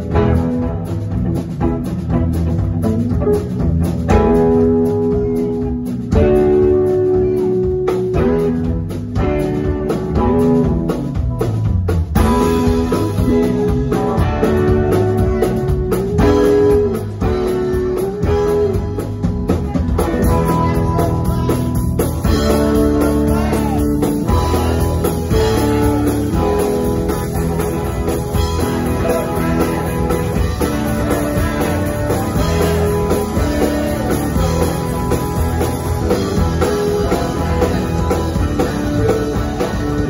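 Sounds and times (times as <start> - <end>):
electric guitars playing riff: 0.0 - 40.0
live rock band playing: 0.0 - 40.0.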